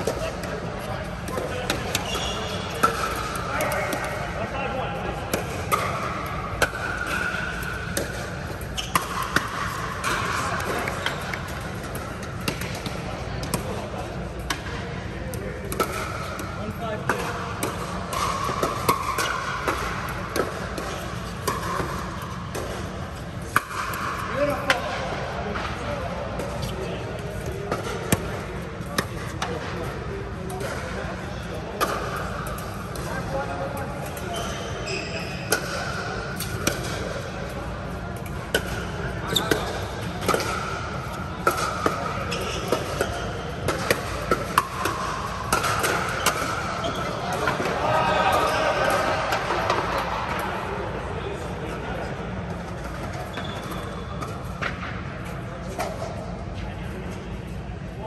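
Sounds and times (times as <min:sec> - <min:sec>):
low background noise: 0:00.0 - 0:58.0
steady background hum: 0:00.0 - 0:58.0.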